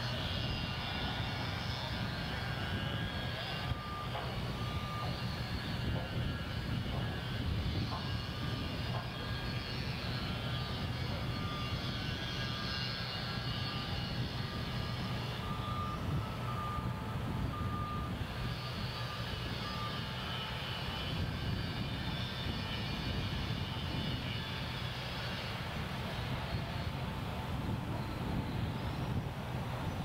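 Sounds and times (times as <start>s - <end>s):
crane diesel engine droning: 0.0s - 30.0s
faint thin whining tones: 0.0s - 30.0s.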